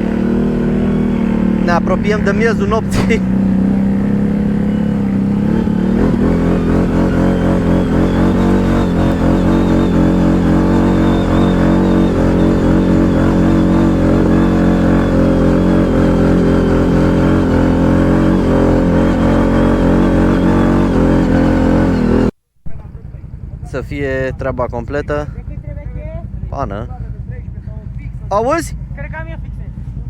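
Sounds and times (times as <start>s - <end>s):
atv engine droning: 0.0s - 30.0s.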